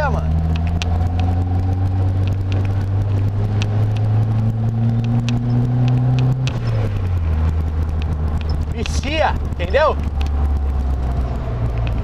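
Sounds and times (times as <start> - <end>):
car engine pulling: 0.0 - 12.0
light ticks and rattles: 0.5 - 12.0.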